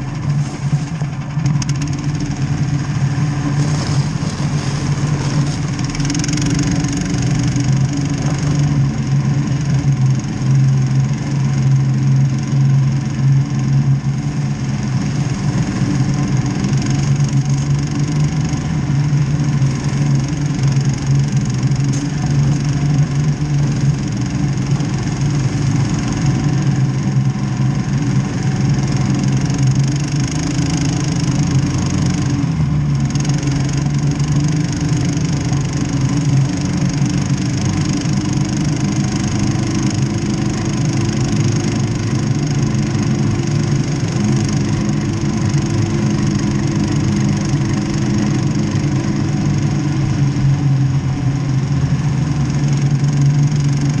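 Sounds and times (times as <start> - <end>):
snow tractor engine running: 0.0 - 54.0.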